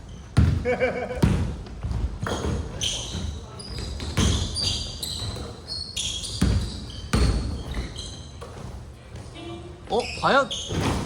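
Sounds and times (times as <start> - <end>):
basketball bouncing on court: 0.3 - 9.3.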